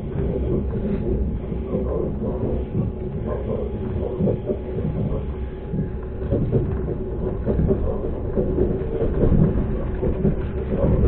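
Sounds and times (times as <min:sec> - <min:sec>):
faint steady hum: 0:00.0 - 0:11.0
train wheels rumbling on rails: 0:00.0 - 0:11.0.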